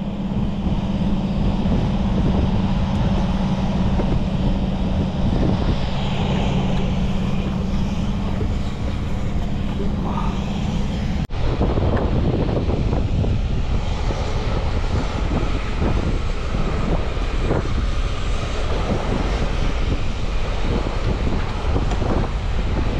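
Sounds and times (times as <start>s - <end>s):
outboard motor humming: 0.0s - 22.9s
water noise: 0.0s - 22.9s
wind: 0.0s - 22.9s.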